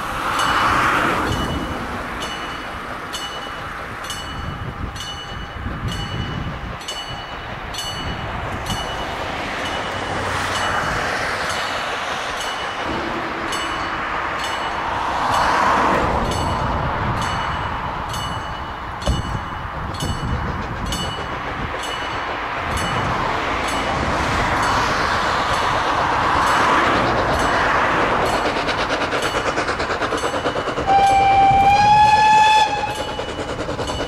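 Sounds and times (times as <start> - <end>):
steam locomotive rushing: 0.0 - 34.0.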